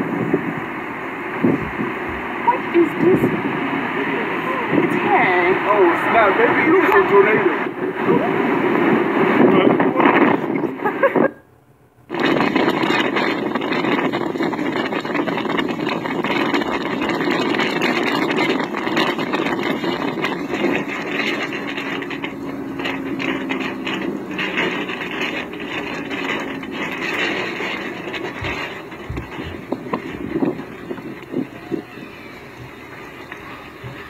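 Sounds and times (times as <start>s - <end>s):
car road and wind noise: 0.0s - 11.4s, 12.0s - 34.0s.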